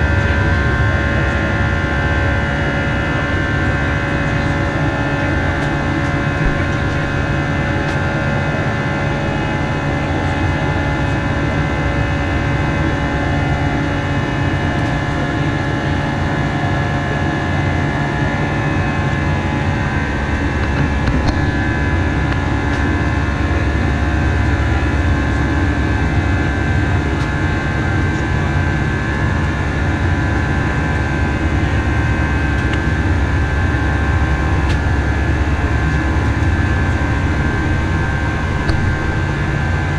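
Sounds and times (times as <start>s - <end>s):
jet engine hum and airflow: 0.0s - 39.9s.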